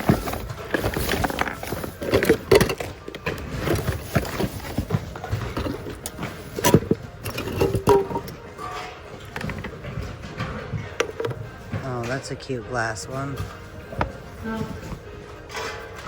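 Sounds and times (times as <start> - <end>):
hard objects clattering in a bin: 0.0 - 16.0.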